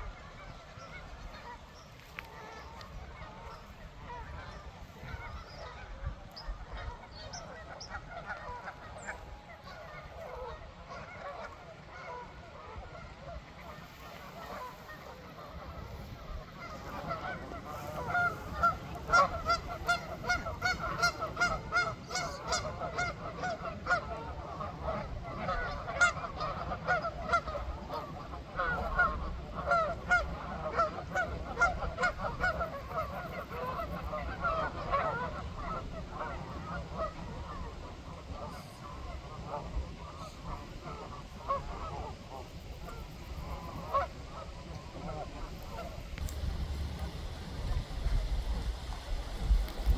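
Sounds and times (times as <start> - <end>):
flock of ducks quacking: 0.0 - 49.9.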